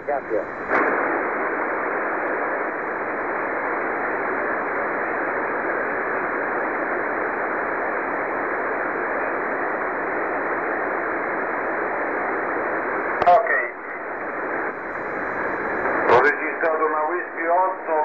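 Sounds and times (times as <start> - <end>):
radio receiver hiss: 0.0 - 18.0.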